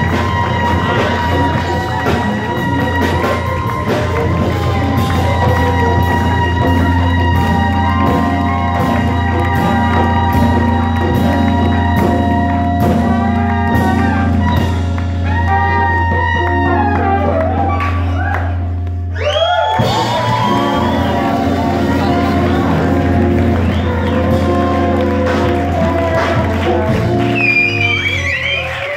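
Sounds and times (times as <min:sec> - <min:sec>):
live band playing: 0:00.0 - 0:28.9.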